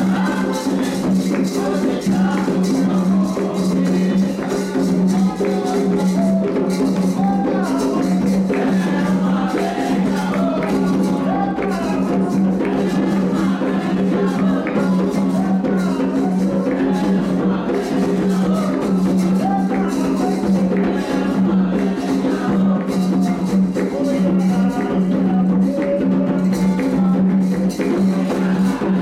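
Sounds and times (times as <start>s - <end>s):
hand drums beating: 0.0s - 29.0s
voices singing: 0.0s - 29.0s.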